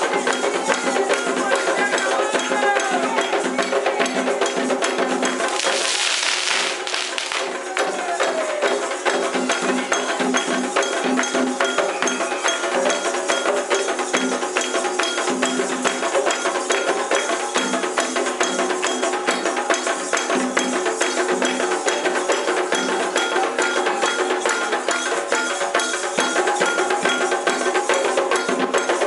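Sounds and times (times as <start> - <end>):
hand drums beating: 0.0 - 29.0.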